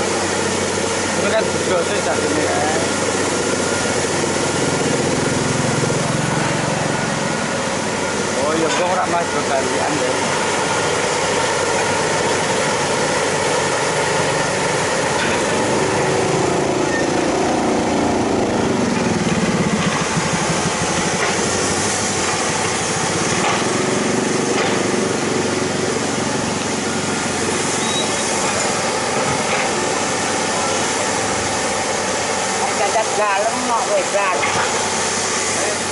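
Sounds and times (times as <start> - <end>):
excavator diesel engine labouring: 0.0 - 35.9.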